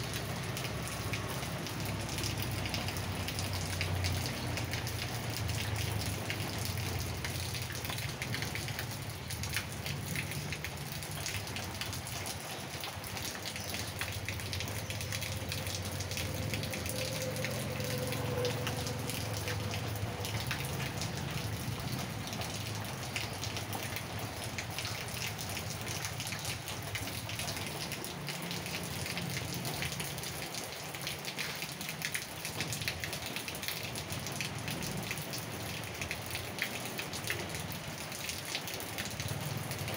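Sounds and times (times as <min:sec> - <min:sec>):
rain on paving and plants: 0:00.0 - 0:39.9
raindrops ticking: 0:00.0 - 0:39.9.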